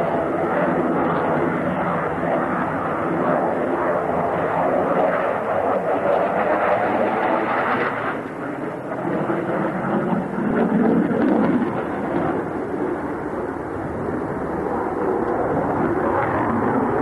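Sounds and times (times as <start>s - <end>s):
fighter jet rumble: 0.0s - 17.0s.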